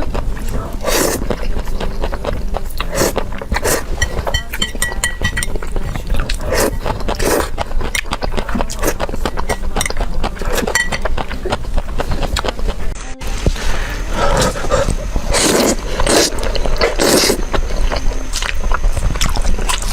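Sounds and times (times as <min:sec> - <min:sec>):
wet chewing: 0:00.0 - 0:19.9.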